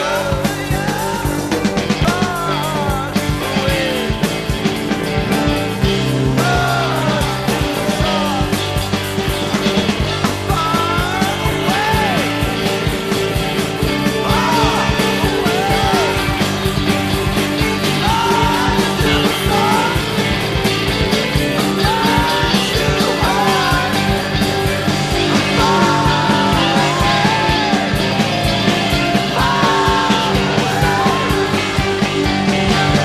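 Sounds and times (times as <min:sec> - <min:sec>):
bending lead guitar line: 0:00.0 - 0:33.0
rock band playing: 0:00.0 - 0:33.0
steady drum beat: 0:00.0 - 0:33.0.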